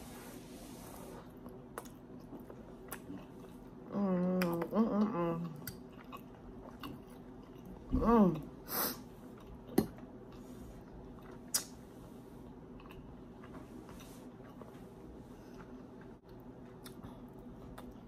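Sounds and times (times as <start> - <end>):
person chewing food: 1.3 - 18.0.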